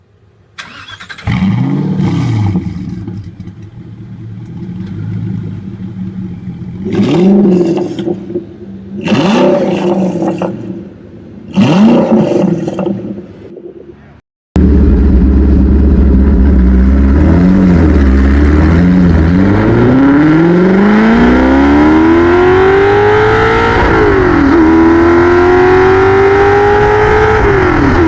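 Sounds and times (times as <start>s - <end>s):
vehicle engine idling and revving: 0.0s - 28.0s.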